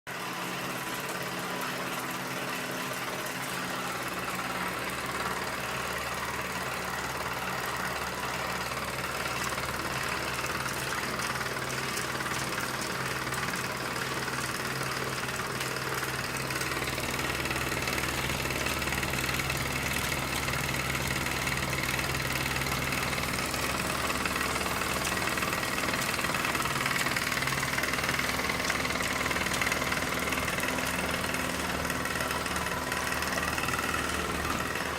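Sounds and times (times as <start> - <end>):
toy steam engine running: 0.1 - 34.9.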